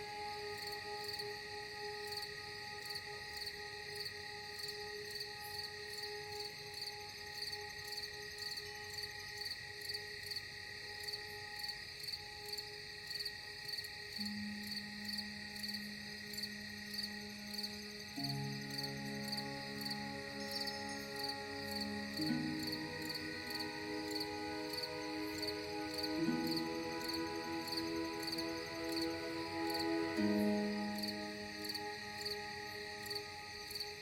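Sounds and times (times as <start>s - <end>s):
ambient music drone: 0.0s - 34.0s
crickets chirping: 0.0s - 34.0s.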